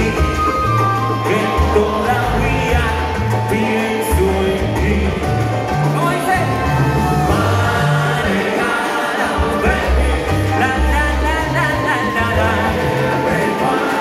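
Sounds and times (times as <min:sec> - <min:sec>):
person singing: 0:00.0 - 0:14.0
salsa band playing live: 0:00.0 - 0:14.0.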